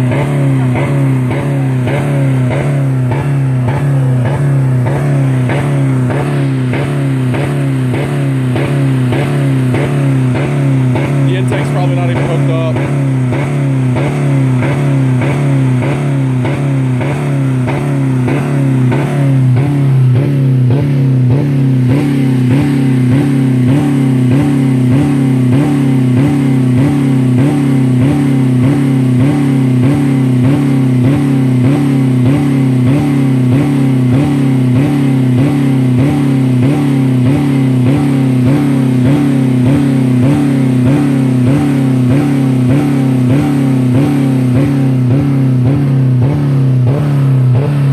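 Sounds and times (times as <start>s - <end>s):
engine on rev limiter: 0.0s - 47.9s.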